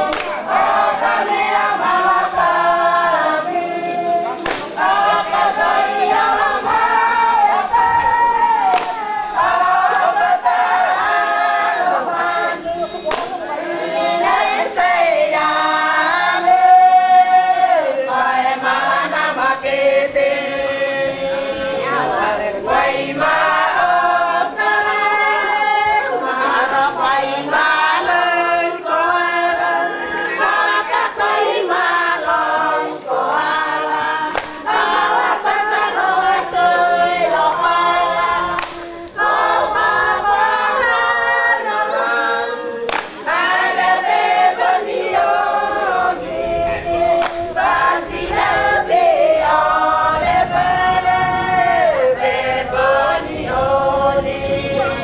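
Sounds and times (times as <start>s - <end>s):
women singing in unison: 0.0s - 55.0s.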